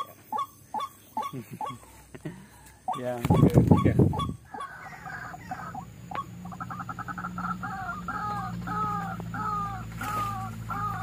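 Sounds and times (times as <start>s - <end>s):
waterhen two-toned calls: 0.0s - 2.0s, 2.8s - 11.0s
steady low hum: 0.0s - 11.0s.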